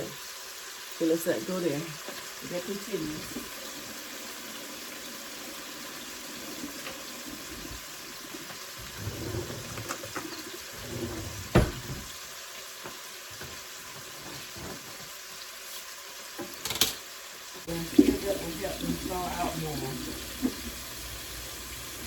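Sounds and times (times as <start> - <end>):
water running from tap: 0.0 - 22.0.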